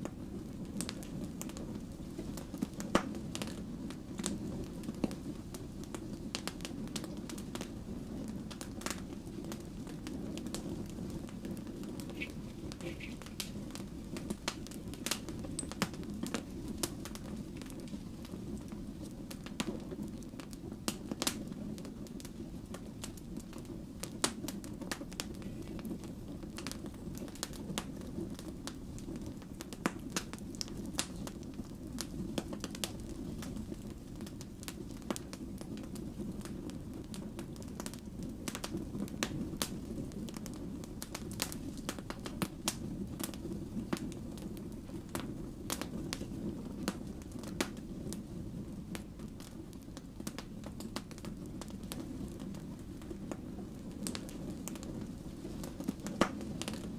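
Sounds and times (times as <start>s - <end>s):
firewood crackling and popping: 0.0s - 56.9s
low rumble of flames: 0.0s - 56.9s.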